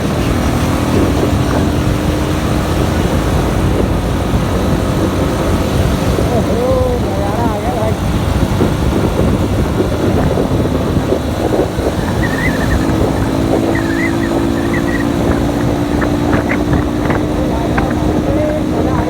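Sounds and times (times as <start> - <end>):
motorcycle engine hum: 0.0 - 19.0
wind buffeting microphone: 0.0 - 19.0.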